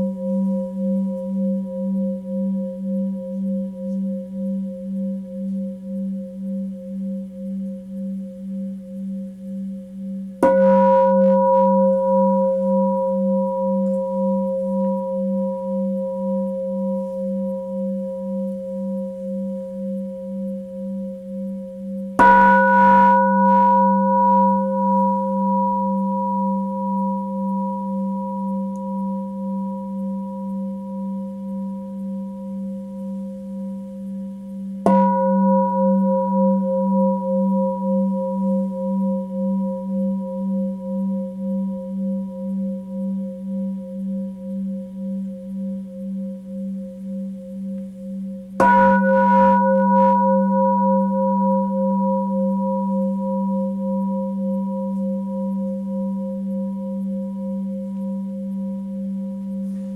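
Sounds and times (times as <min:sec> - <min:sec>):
singing bowl ringing: 0:00.0 - 0:59.9.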